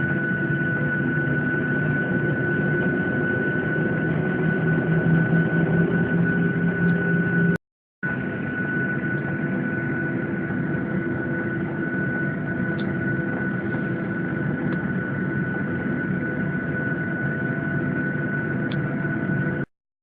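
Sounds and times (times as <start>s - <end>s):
high-pitched whine: 0.0s - 19.6s
aircraft cabin hum: 0.2s - 19.6s.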